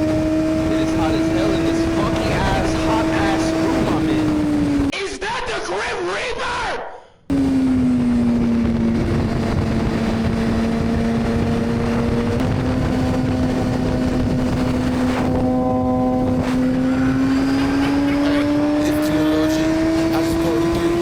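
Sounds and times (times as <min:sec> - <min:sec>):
motorcycle engine at high revs: 0:00.0 - 0:04.9, 0:07.3 - 0:21.0
wind and road noise: 0:00.0 - 0:04.9, 0:07.3 - 0:21.0.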